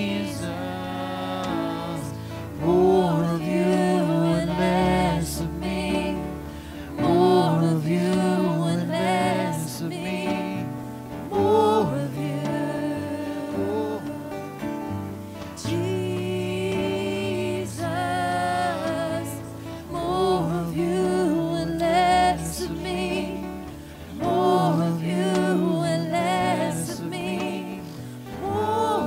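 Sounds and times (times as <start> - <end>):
person singing: 0.0 - 29.0
slow worship song: 0.0 - 29.0.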